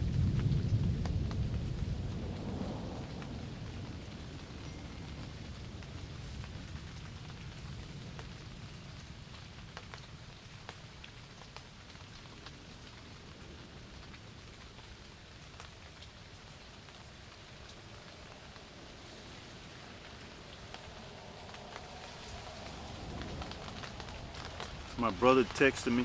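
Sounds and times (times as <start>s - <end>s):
rain falling on a tent: 0.0s - 26.0s.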